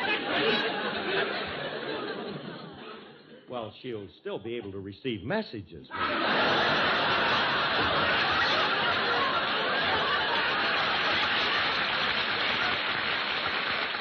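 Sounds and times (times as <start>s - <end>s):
large crowd laughing: 0.0s - 3.5s, 5.9s - 14.0s.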